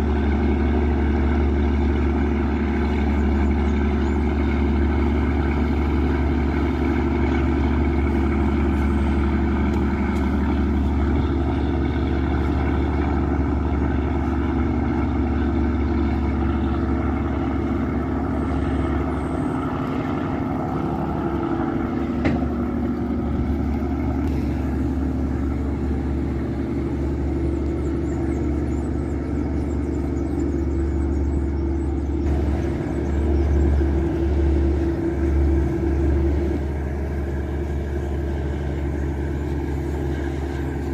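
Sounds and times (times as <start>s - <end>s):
boat diesel engine drone: 0.0s - 40.9s.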